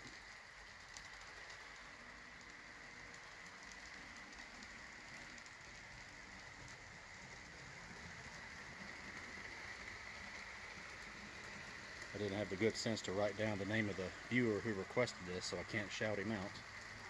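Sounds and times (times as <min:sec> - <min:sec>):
model train motor whirring: 0:00.0 - 0:17.0.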